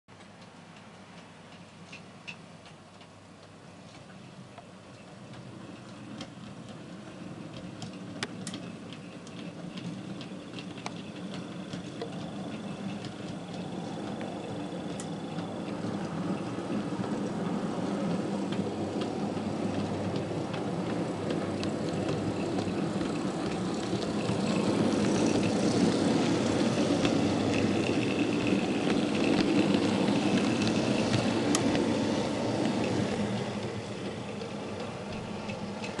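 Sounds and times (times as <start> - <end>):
model train running: 0.6 - 36.0.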